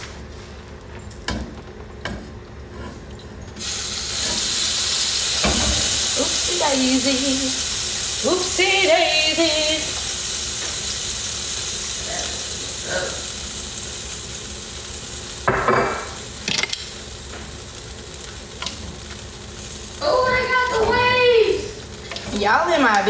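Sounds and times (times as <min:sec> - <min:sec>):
food sizzling in a pan: 0:03.6 - 0:23.0.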